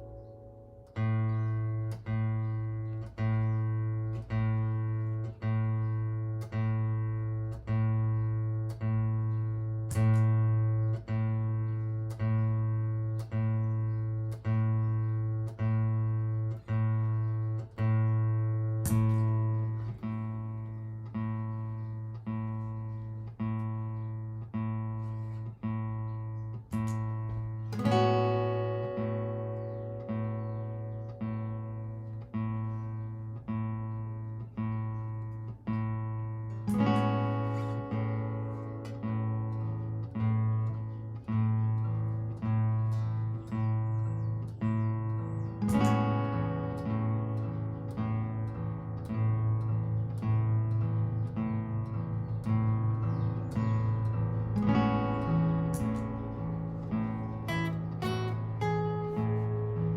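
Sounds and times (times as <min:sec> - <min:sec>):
acoustic guitar plucked low note: 0:00.0 - 0:59.9
guitar chord ringing: 0:00.0 - 0:59.9.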